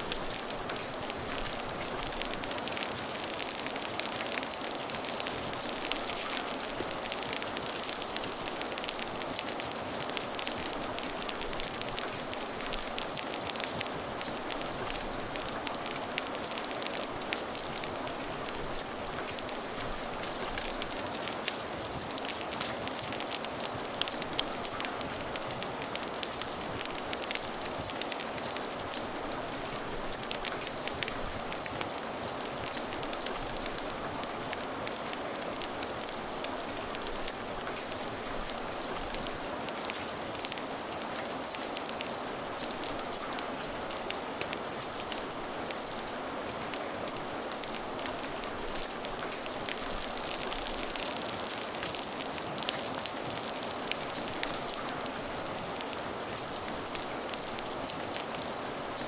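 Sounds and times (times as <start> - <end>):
fire crackling: 0.0 - 59.0
rain hissing: 0.0 - 59.0.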